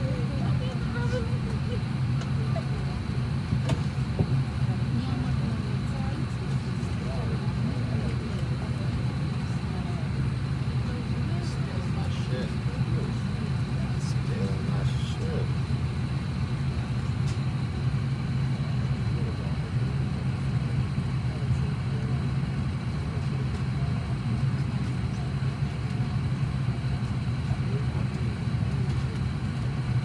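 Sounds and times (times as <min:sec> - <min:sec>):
airliner cabin drone: 0:00.0 - 0:30.0
faint voices: 0:00.0 - 0:30.0.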